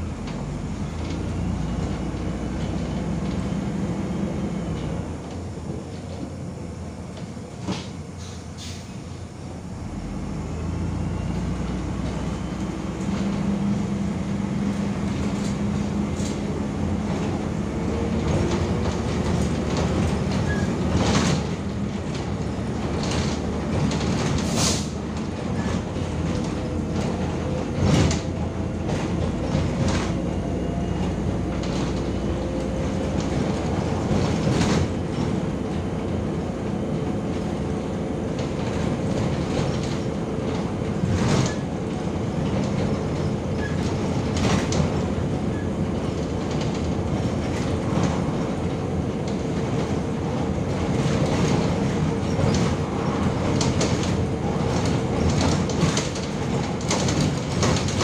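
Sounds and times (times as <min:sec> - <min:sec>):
bus rumble: 0:00.0 - 0:58.0.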